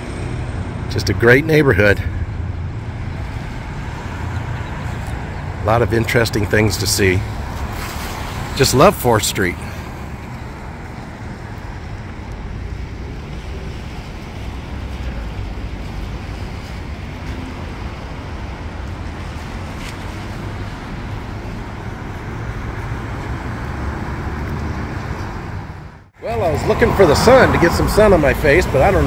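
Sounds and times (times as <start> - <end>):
street traffic: 0.0 - 29.0.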